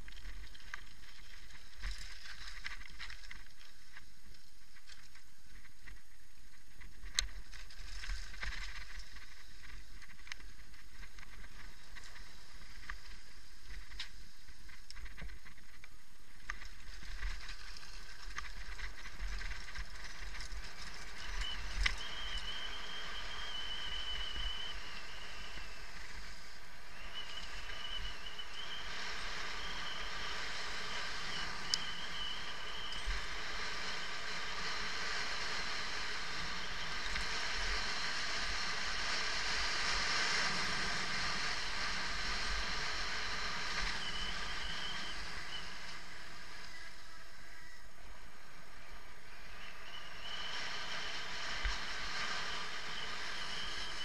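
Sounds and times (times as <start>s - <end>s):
bike tyre hum: 0.0s - 54.0s
thin high whine: 0.0s - 54.0s.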